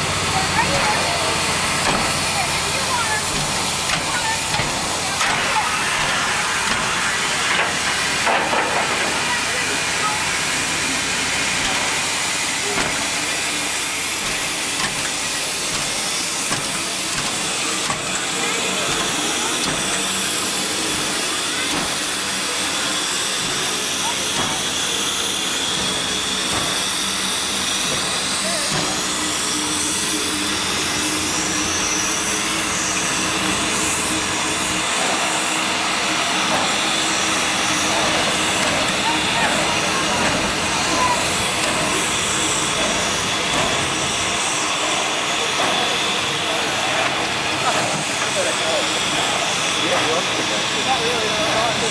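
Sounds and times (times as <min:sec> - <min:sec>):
steam locomotive hissing: 0:00.0 - 0:51.9.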